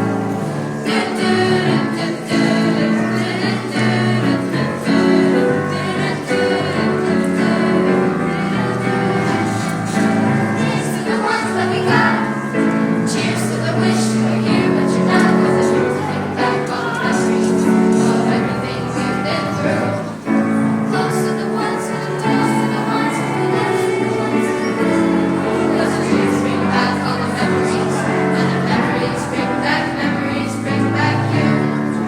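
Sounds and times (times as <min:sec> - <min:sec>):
choir singing long notes: 0:00.0 - 0:32.0.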